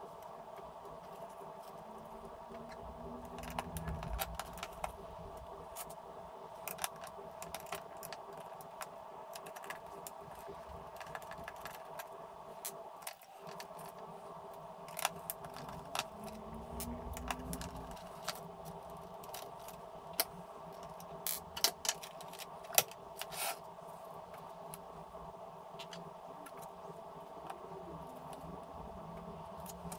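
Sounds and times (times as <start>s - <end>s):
faint hum: 0.0s - 29.9s.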